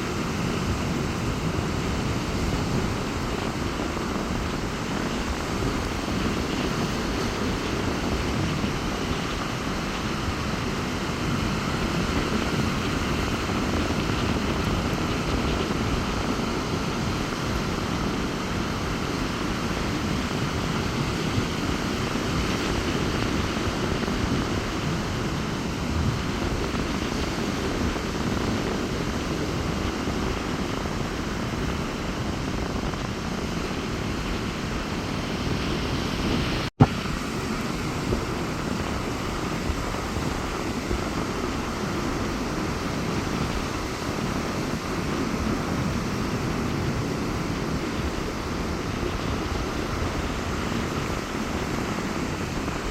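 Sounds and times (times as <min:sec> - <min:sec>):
sea surf breaking: 0:00.0 - 0:52.9
wind rumbling on microphone: 0:00.0 - 0:52.9.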